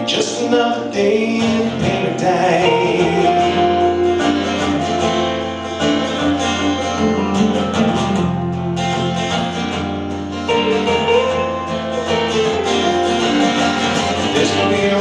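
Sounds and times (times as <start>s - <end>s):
acoustic guitar strummed: 0.0s - 15.0s
guitar playing a melody: 0.0s - 15.0s.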